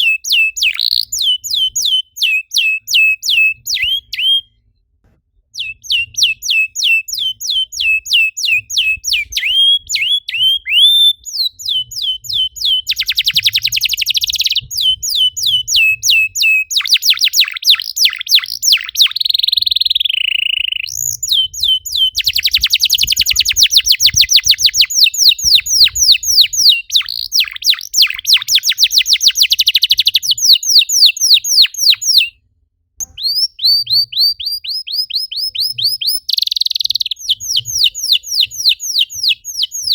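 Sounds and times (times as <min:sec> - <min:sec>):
canary singing chirps and trills: 0:00.0 - 0:04.6, 0:05.6 - 0:32.4, 0:33.0 - 0:39.9.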